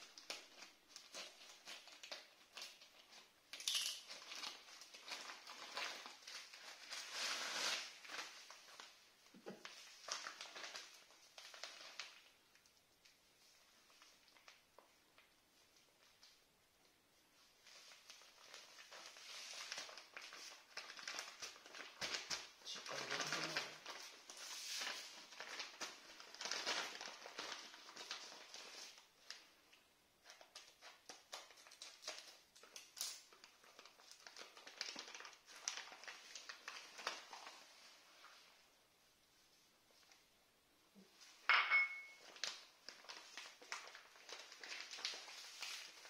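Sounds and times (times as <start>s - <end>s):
packaging crinkling and rustling: 0.0s - 16.5s, 17.4s - 38.6s, 41.2s - 46.0s.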